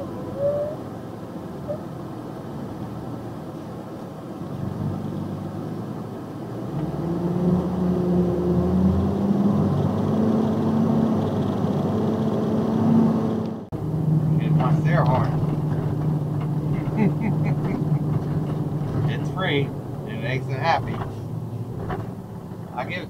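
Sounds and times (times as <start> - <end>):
road noise: 0.0 - 23.0
truck engine accelerating: 0.0 - 23.0.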